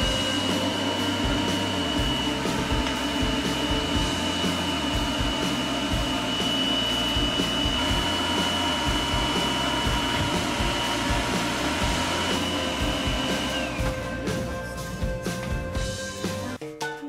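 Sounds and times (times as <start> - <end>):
dryer blowing air with high whine: 0.0 - 16.6.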